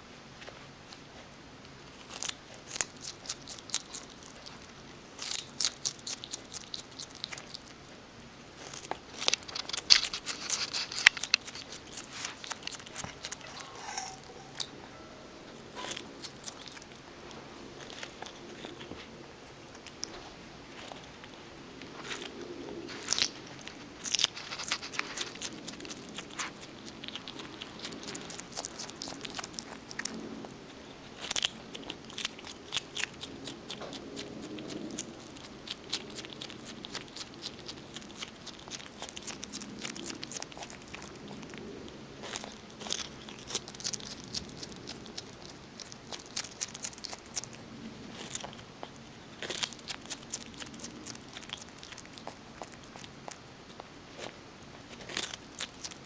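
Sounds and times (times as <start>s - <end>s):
skunk crunching carrot: 0.4s - 56.0s.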